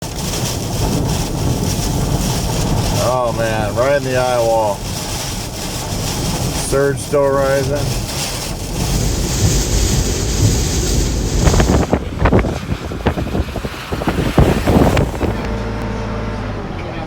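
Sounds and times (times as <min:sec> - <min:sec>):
rushing storm water: 0:00.0 - 0:15.8
wind blasting microphone: 0:00.0 - 0:15.8.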